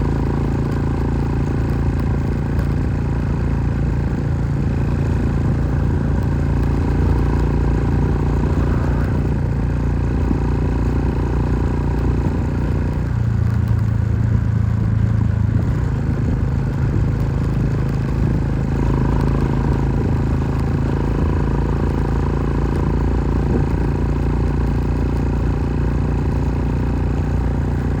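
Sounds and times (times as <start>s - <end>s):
engine running: 0.0s - 28.0s.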